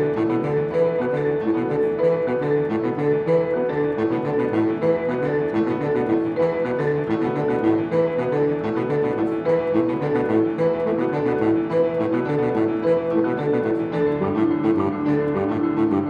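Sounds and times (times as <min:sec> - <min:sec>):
piano: 0:00.0 - 0:16.0
saxophone: 0:00.0 - 0:16.0.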